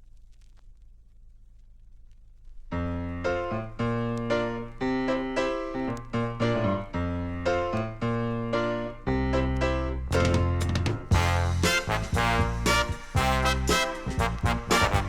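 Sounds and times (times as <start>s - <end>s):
piano playing chords: 2.8s - 15.0s.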